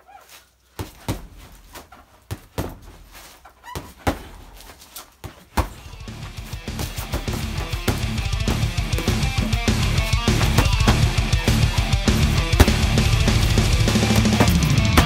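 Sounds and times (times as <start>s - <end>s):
punches thudding on a heavy bag: 0.8s - 15.0s.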